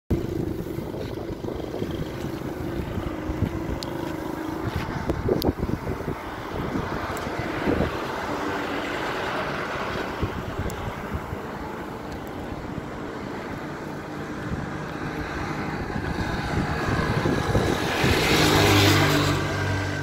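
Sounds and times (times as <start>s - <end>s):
motor vehicle rumble: 0.1s - 20.0s
wind buffeting microphone: 0.1s - 20.0s.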